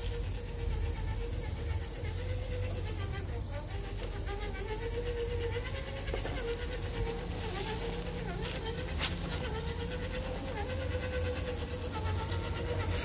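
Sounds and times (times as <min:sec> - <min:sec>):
electric motor whine: 0:00.0 - 0:13.0.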